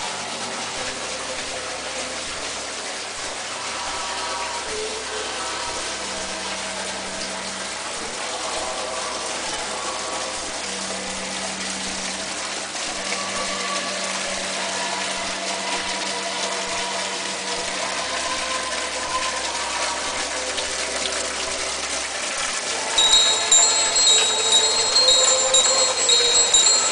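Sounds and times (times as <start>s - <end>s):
running water: 0.0s - 26.9s.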